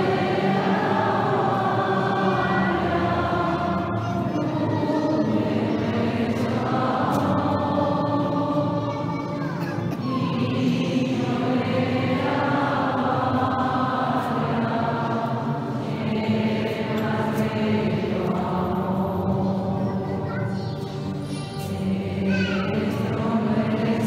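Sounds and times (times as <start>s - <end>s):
voices singing a hymn: 0.0s - 24.0s.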